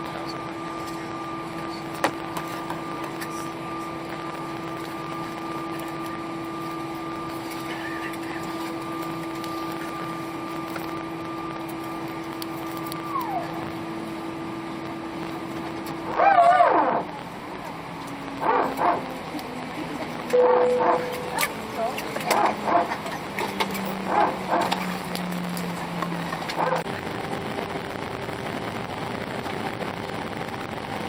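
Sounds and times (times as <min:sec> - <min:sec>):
aircraft cabin hum: 0:00.0 - 0:31.0
engine whine: 0:00.0 - 0:31.0.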